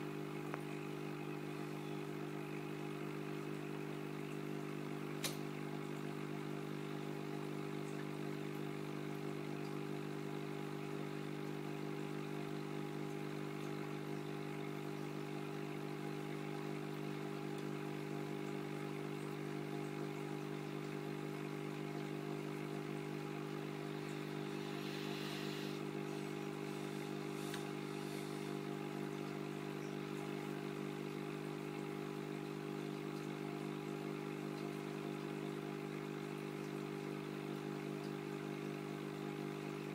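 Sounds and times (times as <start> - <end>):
aquarium pump humming: 0.0 - 39.9.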